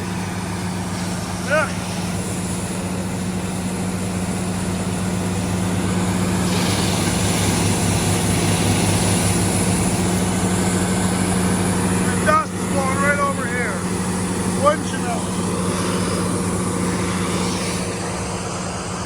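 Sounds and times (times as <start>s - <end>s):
diesel engine running: 0.0s - 19.0s
wood chipper rushing noise: 0.0s - 19.0s.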